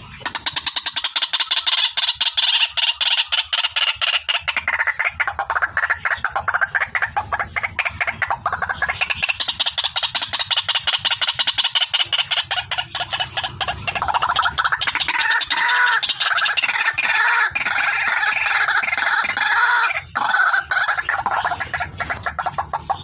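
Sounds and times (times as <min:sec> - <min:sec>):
bird calling rapidly: 0:00.0 - 0:23.0.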